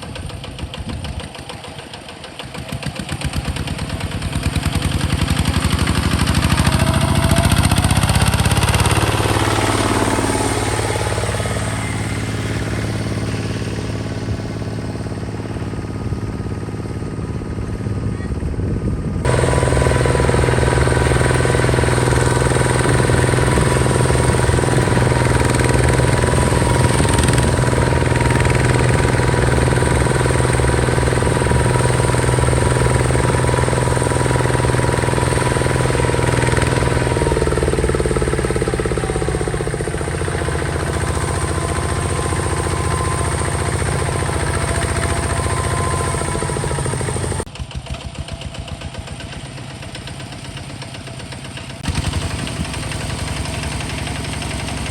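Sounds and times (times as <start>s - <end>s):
diesel tractor engine running: 0.0s - 54.9s.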